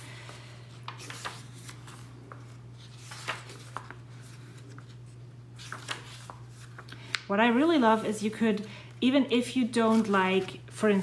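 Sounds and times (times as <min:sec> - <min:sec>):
paper pages turning: 0:00.7 - 0:08.4, 0:09.6 - 0:11.0.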